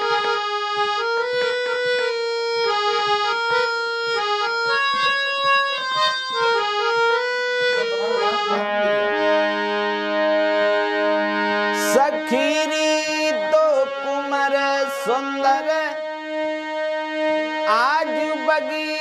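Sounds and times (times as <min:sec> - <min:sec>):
harmonium melody: 0:00.0 - 0:19.0.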